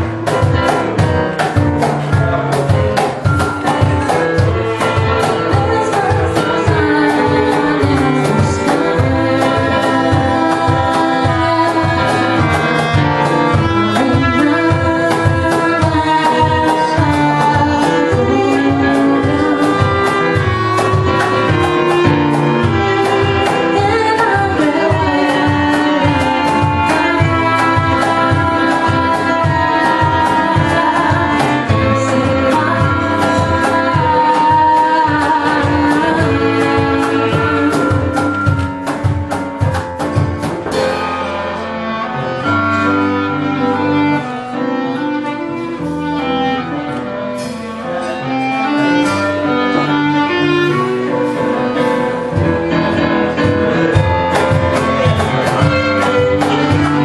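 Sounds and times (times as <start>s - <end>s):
folk band playing live: 0.0s - 57.0s.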